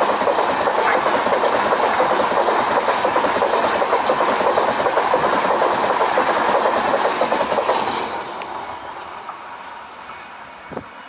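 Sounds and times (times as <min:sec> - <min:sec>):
train wheels clattering on rails: 0:00.0 - 0:10.9.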